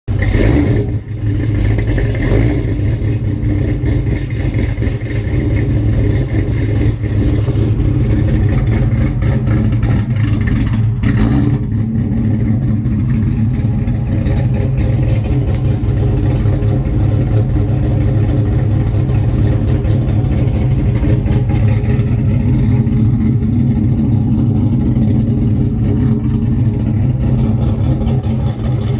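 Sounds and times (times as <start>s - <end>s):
car engine running: 0.1s - 28.9s.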